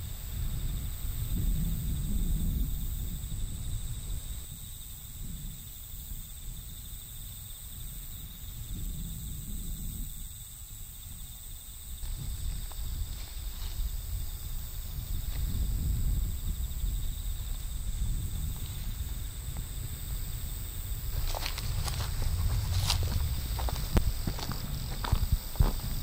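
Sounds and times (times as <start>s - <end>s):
insects trilling: 0.0s - 26.0s
wind rumble on microphone: 0.0s - 26.0s.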